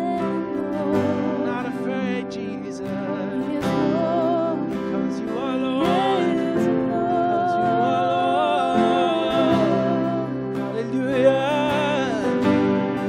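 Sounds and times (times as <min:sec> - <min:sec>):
man and woman singing: 0:00.0 - 0:13.0
strummed acoustic guitar: 0:00.0 - 0:13.0.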